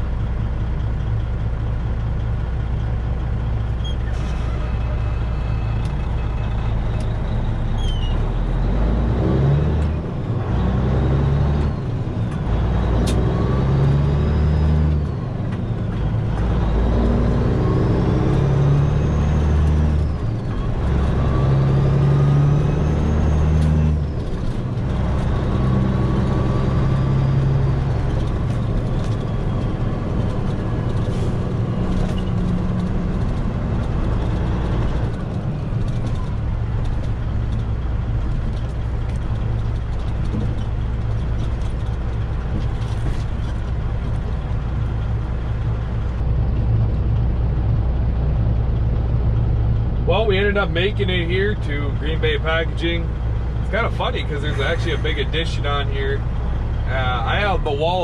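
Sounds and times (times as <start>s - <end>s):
diesel truck engine pulling: 0.0s - 58.0s.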